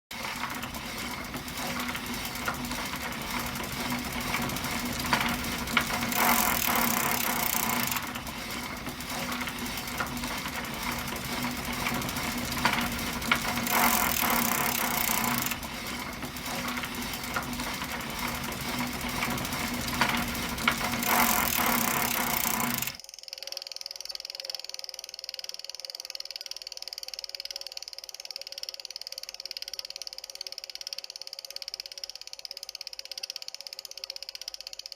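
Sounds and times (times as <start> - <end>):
bicycle drivetrain rattling and whirring: 0.1 - 23.0, 23.7 - 34.9.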